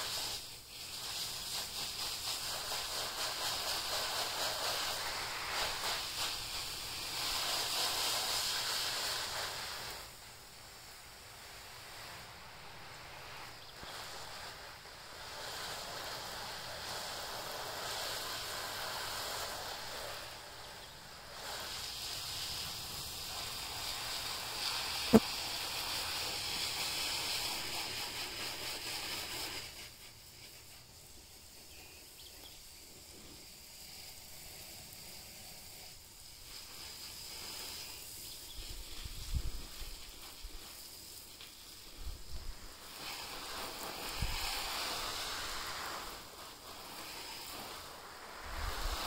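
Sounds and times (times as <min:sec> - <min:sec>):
steady high hiss: 0:00.0 - 0:49.0.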